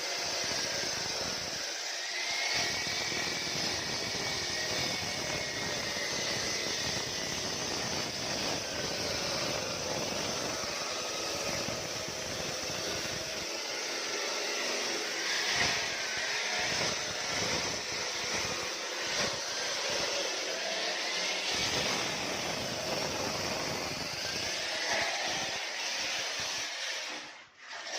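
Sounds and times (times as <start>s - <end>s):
concrete saw grinding whine: 0.0s - 27.9s.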